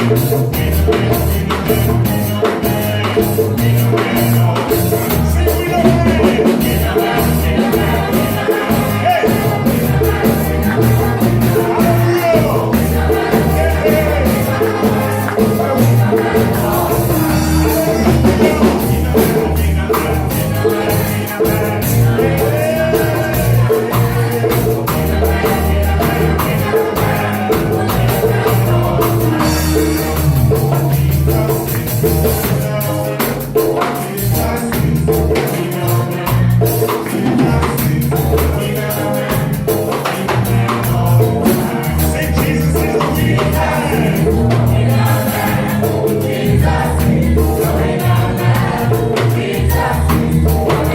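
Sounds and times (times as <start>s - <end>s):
bass: 0.0s - 50.9s
drums: 0.0s - 50.9s.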